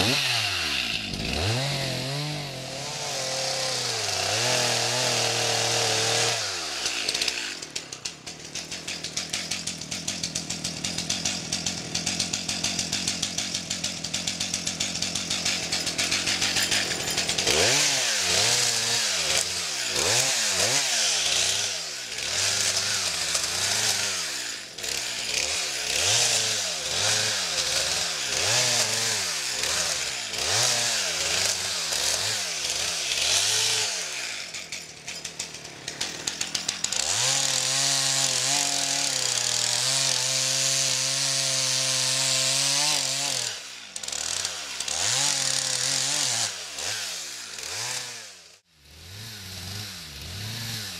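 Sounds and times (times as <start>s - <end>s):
chainsaw revving and cutting: 0.0s - 50.9s.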